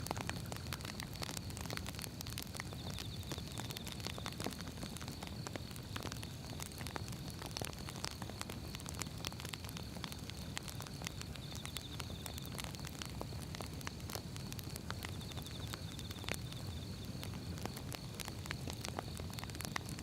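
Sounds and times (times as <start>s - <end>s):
firewood popping and snapping: 0.0s - 20.0s
low rumble of flames: 0.0s - 20.0s.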